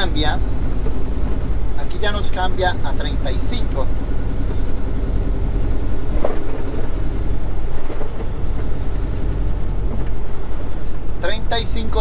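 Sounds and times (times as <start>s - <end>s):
diesel engine rumbling: 0.0s - 12.0s
road noise: 0.0s - 12.0s.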